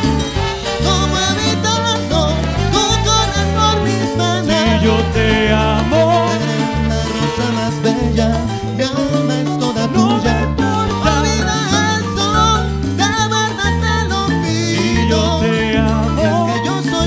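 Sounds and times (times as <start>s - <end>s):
latin dance orchestra playing: 0.0s - 17.0s.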